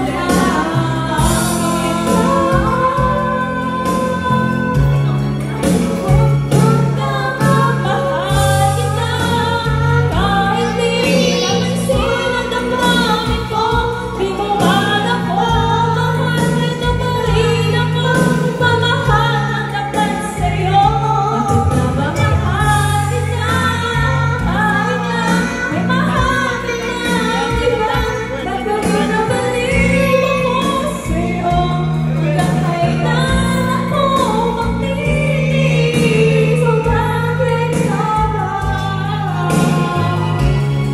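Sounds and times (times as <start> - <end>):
backing music with bass line: 0.0 - 40.9
woman and girl singing: 6.1 - 40.4.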